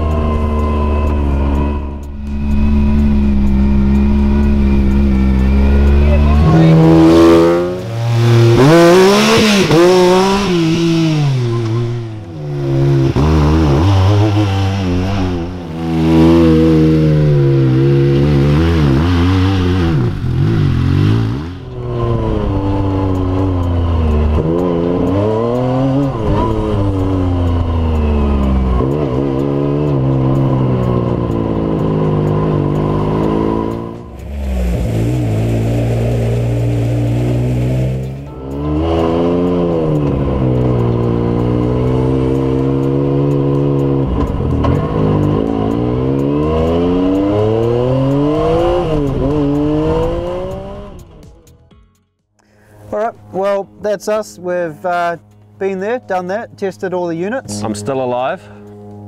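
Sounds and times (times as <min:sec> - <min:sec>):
engine revving through gears: 0:00.0 - 0:51.2.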